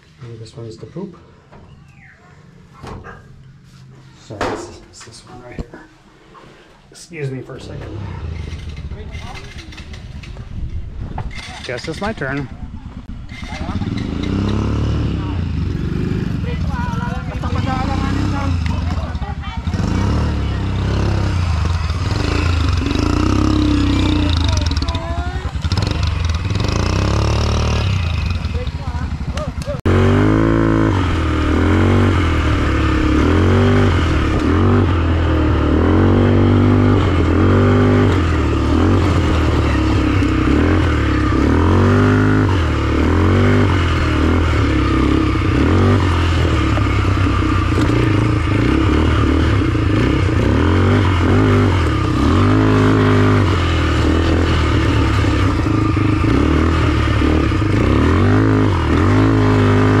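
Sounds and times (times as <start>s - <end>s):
atv engines revving: 6.1s - 60.0s.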